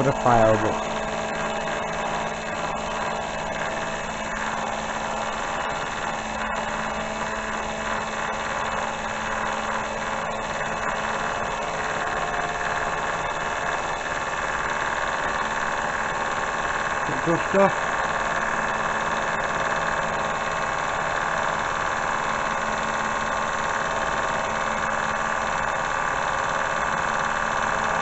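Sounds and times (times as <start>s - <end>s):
milling machine humming: 0.0s - 23.0s.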